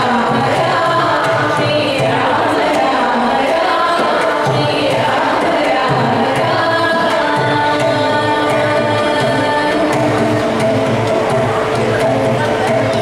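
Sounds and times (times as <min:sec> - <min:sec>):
hand drum accompaniment: 0:00.0 - 0:13.0.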